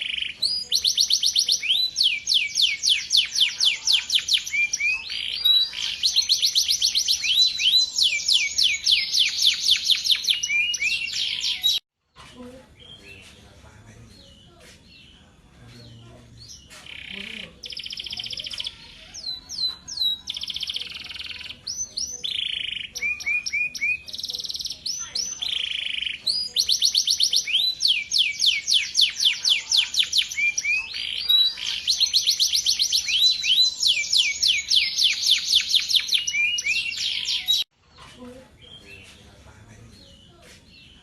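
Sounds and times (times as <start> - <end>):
canary singing trills: 0.0 - 11.8, 12.4 - 41.0.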